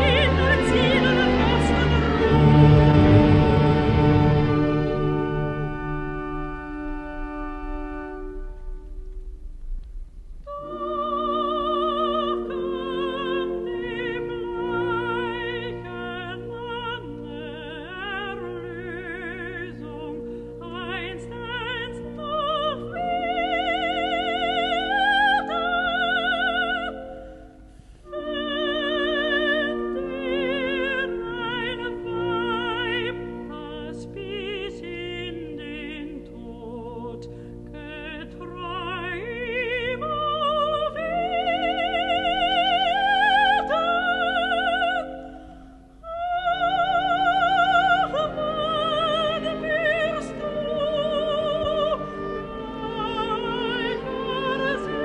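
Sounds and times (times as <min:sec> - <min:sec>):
soprano singing: 0:00.0 - 0:09.0, 0:10.4 - 0:55.0
symphony orchestra: 0:00.0 - 0:55.0.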